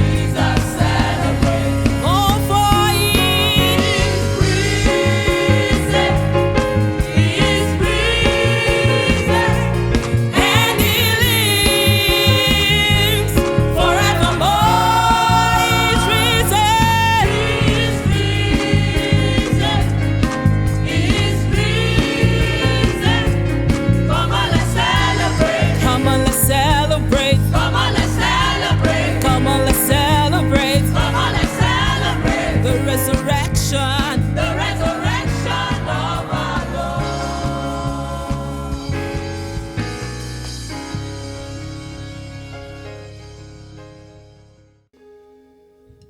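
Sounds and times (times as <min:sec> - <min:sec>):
gospel choir singing: 0:00.0 - 0:40.7
bass-heavy band with steady beat: 0:00.0 - 0:44.2.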